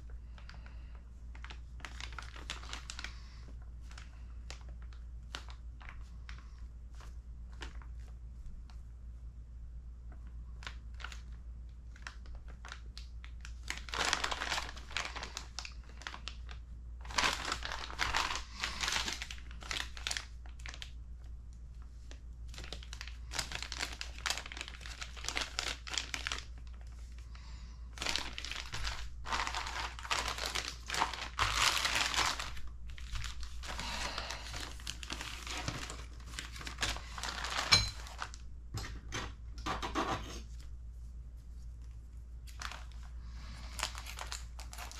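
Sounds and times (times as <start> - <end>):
plastic bags crinkling: 0.0 - 8.2, 10.5 - 21.2, 21.8 - 38.6, 42.4 - 44.9.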